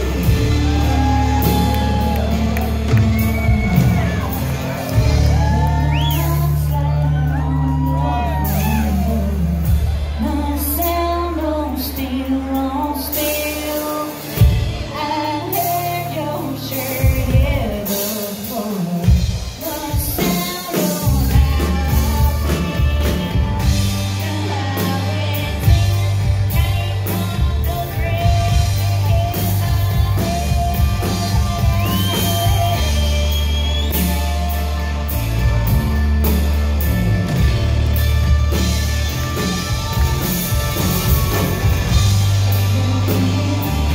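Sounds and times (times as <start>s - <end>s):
woman singing: 0.0s - 36.5s, 38.5s - 43.9s
country rock band playing: 0.0s - 43.9s.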